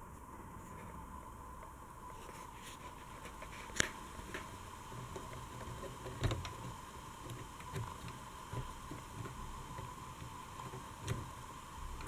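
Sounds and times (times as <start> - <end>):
faint handling noise: 0.0 - 12.0
steady low hum: 0.0 - 12.0
small ticks: 1.6 - 12.0.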